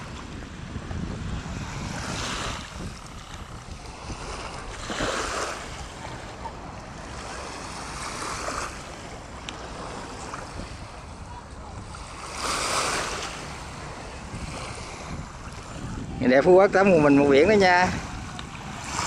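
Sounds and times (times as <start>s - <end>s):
small waves lapping on shore: 0.0s - 19.0s
wind on microphone: 0.0s - 19.0s.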